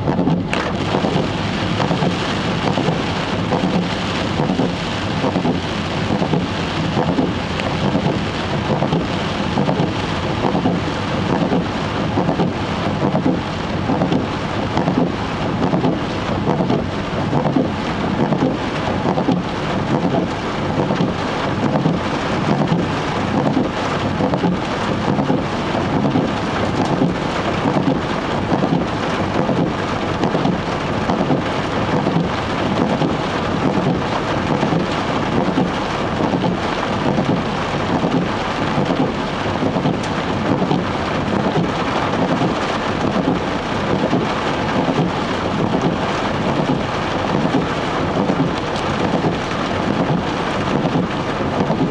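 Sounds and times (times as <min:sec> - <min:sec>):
heavy rain on car: 0:00.0 - 0:51.9
tyres running through water: 0:00.0 - 0:51.9.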